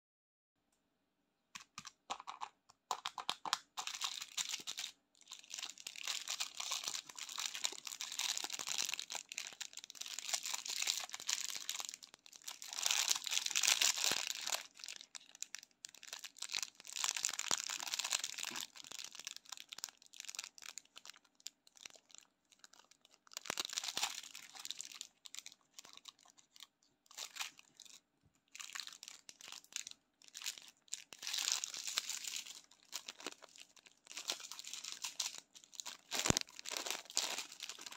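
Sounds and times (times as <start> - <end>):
plastic wrapper crinkling: 1.6 - 37.9.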